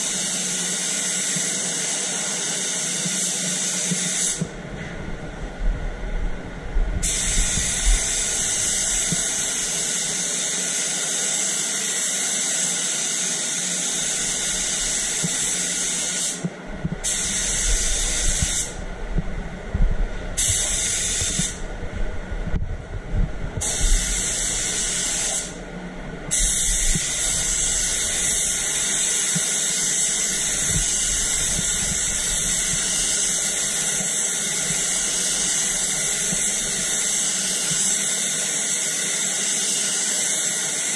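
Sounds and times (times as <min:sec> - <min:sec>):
spray gun hissing: 0:00.0 - 0:04.5, 0:07.0 - 0:18.8, 0:20.4 - 0:21.6, 0:23.6 - 0:25.6, 0:26.3 - 0:40.9.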